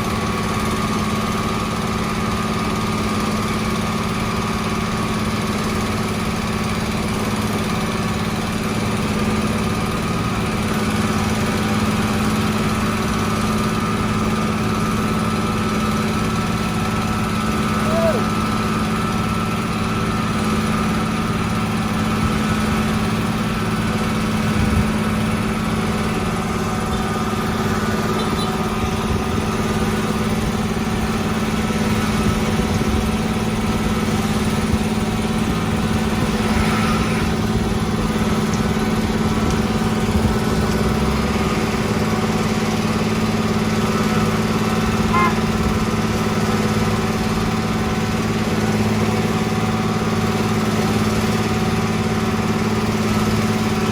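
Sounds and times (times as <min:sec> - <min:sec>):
construction machine engine running: 0:00.0 - 0:53.9.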